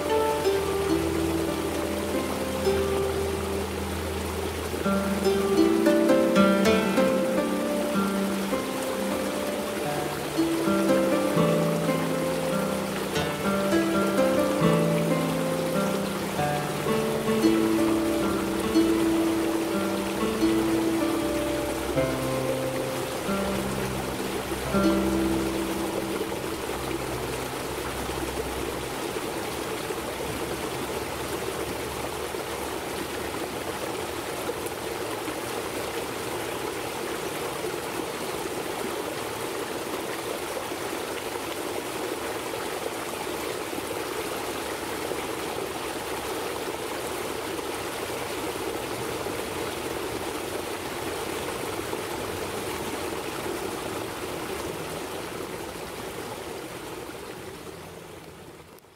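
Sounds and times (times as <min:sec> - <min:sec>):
water splashing over stones: 0:00.0 - 0:58.9.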